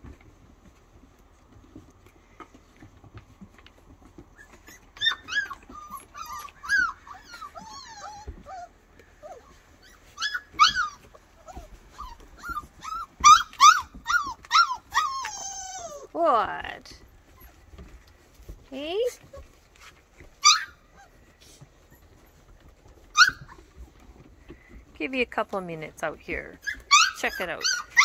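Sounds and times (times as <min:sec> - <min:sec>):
puppies whining and yipping: 0:00.0 - 0:25.0, 0:26.4 - 0:28.0.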